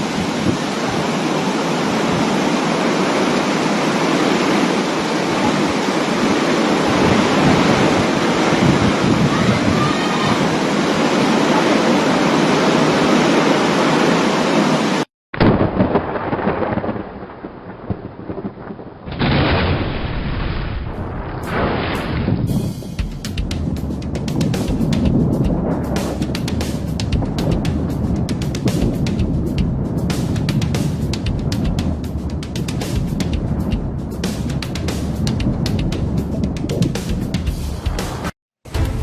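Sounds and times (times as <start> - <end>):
heavy rain pouring: 0.0 - 36.7.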